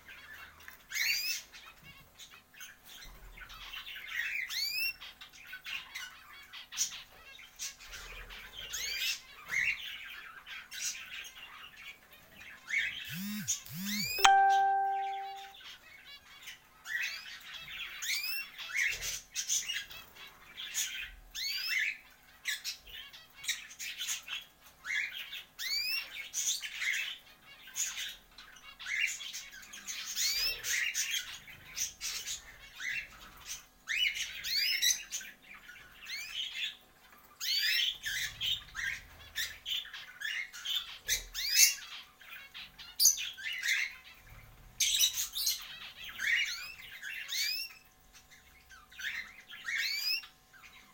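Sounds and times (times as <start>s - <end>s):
cage birds chirping and squawking: 0.0s - 14.2s, 15.0s - 50.9s.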